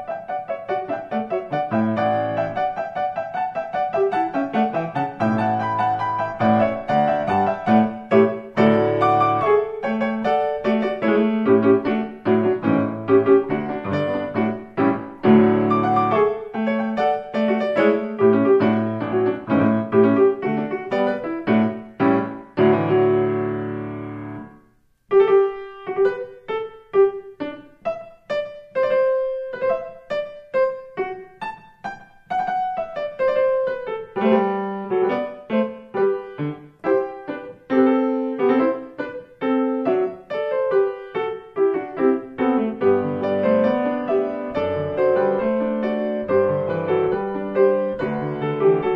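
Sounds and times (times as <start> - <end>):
solo piano music: 0.0 - 48.9.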